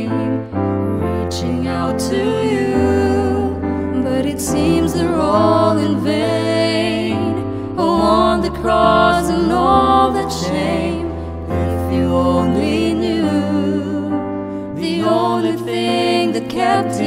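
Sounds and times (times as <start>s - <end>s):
woman singing pop ballad: 0.0s - 17.0s.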